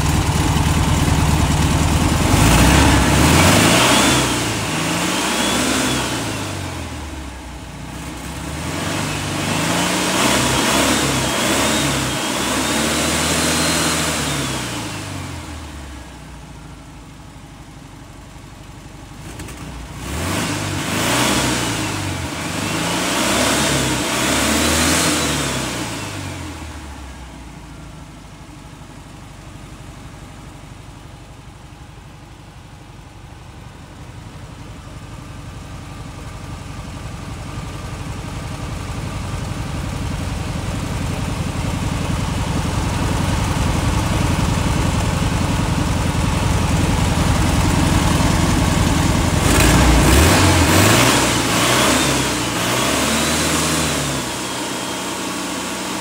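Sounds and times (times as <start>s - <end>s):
engine revving and idling: 0.0s - 56.0s.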